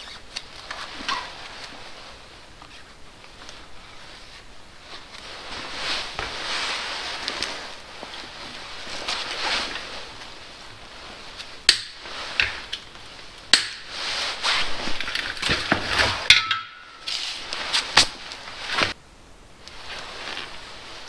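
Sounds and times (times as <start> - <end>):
rustling gloves and clothing: 0.0 - 19.0, 19.6 - 21.0.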